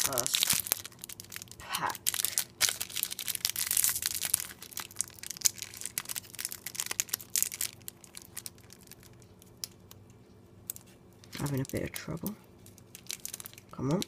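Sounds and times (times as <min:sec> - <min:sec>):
foil pack crinkling: 0:00.0 - 0:14.0.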